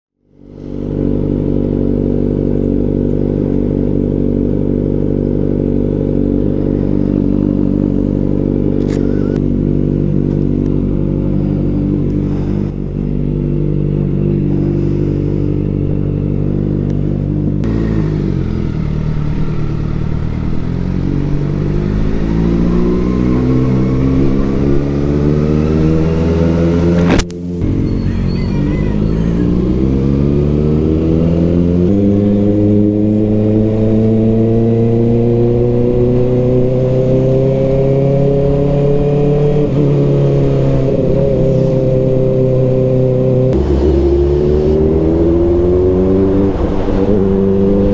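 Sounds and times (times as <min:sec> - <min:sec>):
motorcycle engine idling and revving: 0:00.2 - 0:47.9.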